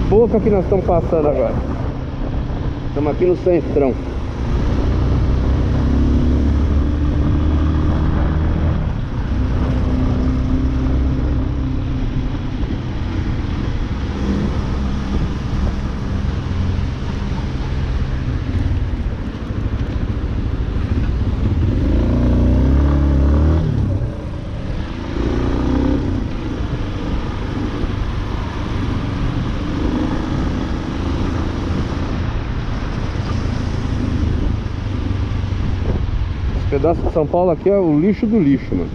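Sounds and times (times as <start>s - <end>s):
motorcycle engine revving: 3.8s - 35.9s.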